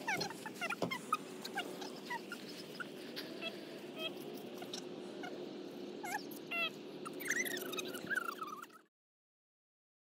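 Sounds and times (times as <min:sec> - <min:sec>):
puppy whining: 0:00.0 - 0:05.4, 0:06.0 - 0:08.9
steady low hum: 0:00.0 - 0:08.9.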